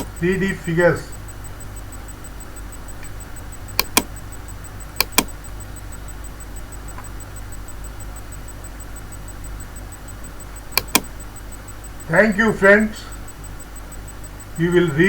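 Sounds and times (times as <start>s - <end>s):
sharp double clicks: 0.0s - 12.3s
steady low hum: 0.0s - 15.0s.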